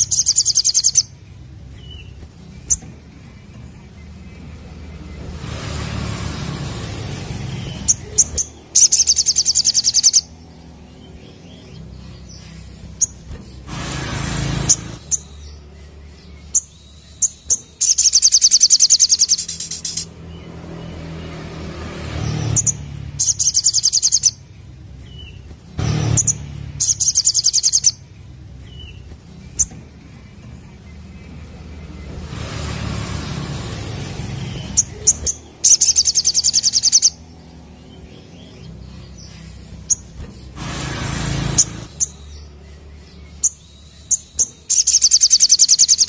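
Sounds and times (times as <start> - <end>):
bird buzzy trilling: 0.0 - 21.6, 22.2 - 46.0.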